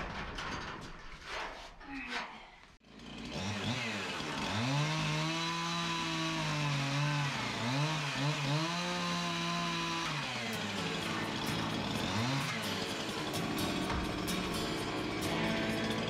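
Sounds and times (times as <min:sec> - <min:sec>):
chainsaw cutting wood: 0:02.8 - 0:16.0.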